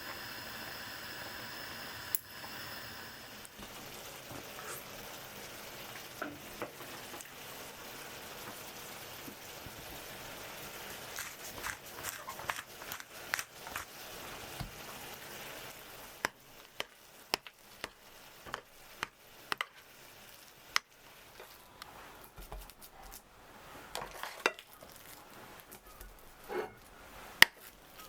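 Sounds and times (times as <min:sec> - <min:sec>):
frying sizzle: 0:00.0 - 0:28.0.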